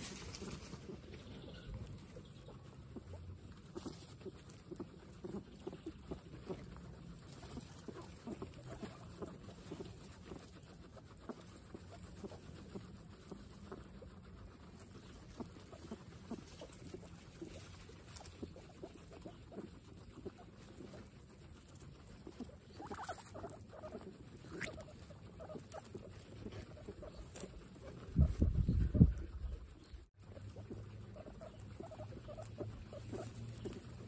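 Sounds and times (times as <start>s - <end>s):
grass rustling: 0.0s - 34.0s
guinea pigs chewing grass: 0.0s - 34.0s.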